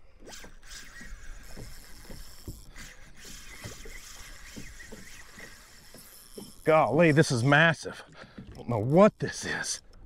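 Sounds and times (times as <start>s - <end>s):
waves slapping kayak hull: 0.0s - 9.7s.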